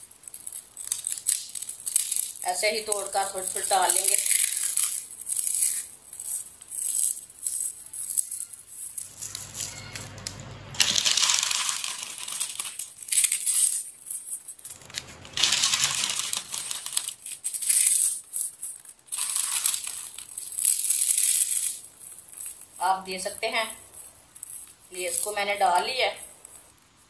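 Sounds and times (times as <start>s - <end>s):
potato chips crunched by hand: 0.0s - 22.8s.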